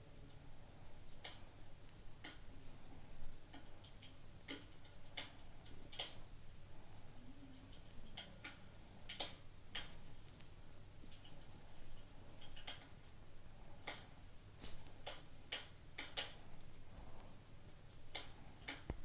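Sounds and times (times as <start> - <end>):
low steady hum: 0.0 - 19.0
wood fire crackling: 0.0 - 19.0.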